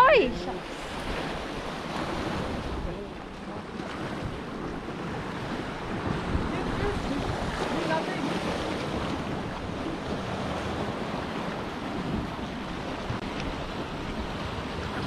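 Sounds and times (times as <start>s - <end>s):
waves washing on rocks: 0.0s - 15.0s
wind on microphone: 0.0s - 15.0s.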